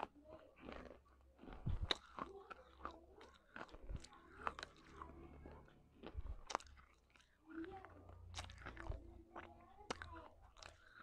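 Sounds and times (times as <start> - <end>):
crunching clay pot pieces: 0.0 - 11.0.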